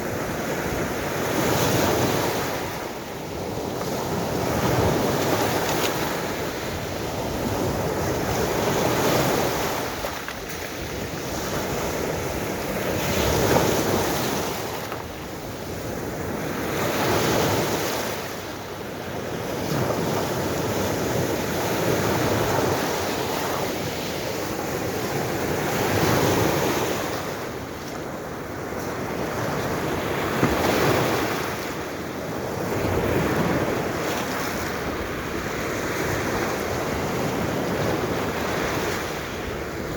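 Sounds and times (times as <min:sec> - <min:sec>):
sea waves breaking: 0:00.0 - 0:39.9
wind on microphone: 0:00.0 - 0:39.9.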